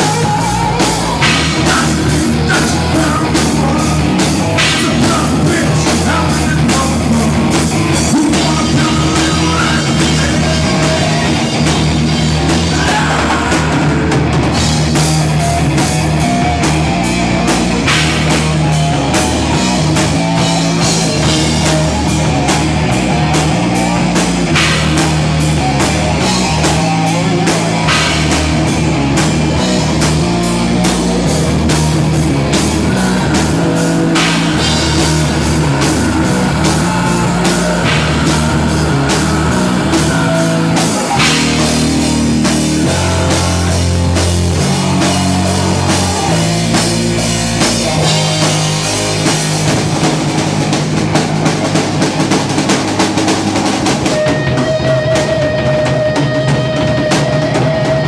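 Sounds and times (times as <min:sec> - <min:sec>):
drum kit fast strokes: 0:00.0 - 0:58.0
heavy rock band playing: 0:00.0 - 0:58.0.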